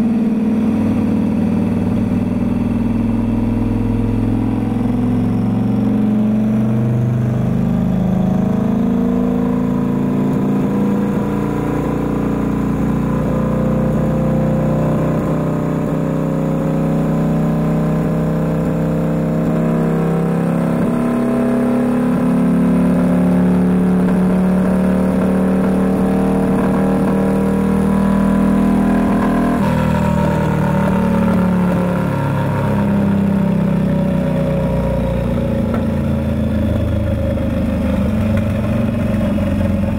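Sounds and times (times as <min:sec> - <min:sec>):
motorcycle engine running on dyno: 0:00.0 - 0:39.9
whine falling in pitch: 0:00.0 - 0:39.9.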